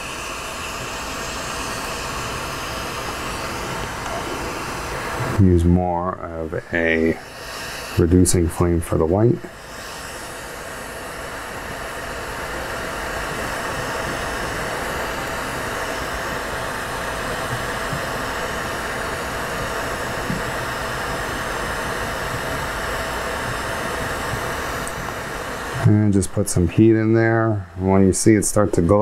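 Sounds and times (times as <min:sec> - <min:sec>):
torch flame hissing: 0:00.0 - 0:29.0.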